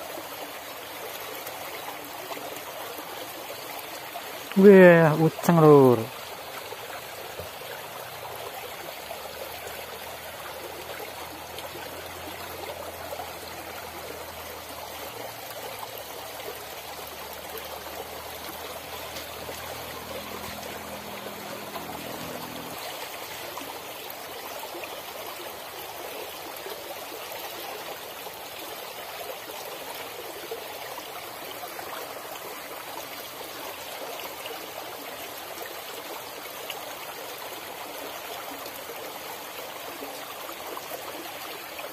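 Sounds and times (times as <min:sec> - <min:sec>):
stream trickling over stones: 0:00.0 - 0:41.9.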